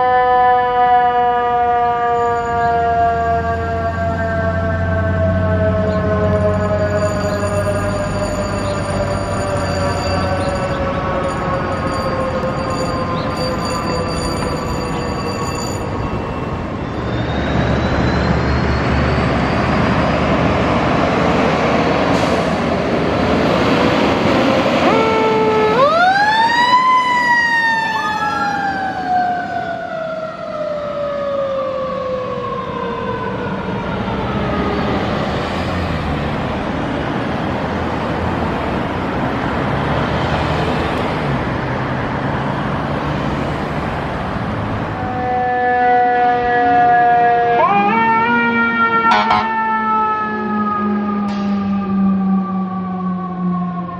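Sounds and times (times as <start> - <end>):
fire engine rumbling: 0.0 - 53.9.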